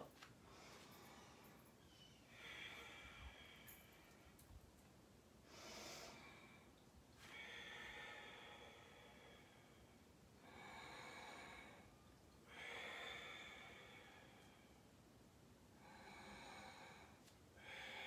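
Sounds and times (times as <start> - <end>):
slow hissing breathing: 0.4 - 4.6, 5.4 - 15.1, 15.7 - 18.0.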